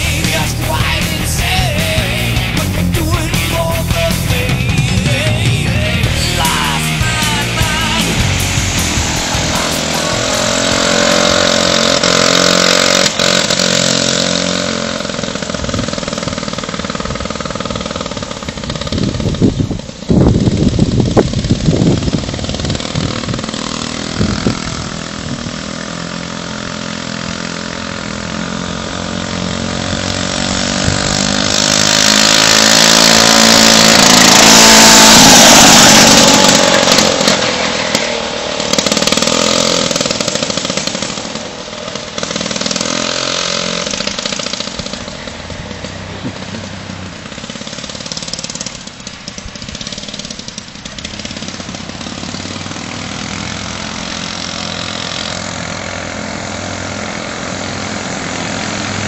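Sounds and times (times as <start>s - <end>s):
rough rumbling noise: 0.0s - 59.0s
two-stroke engine running: 0.0s - 59.0s.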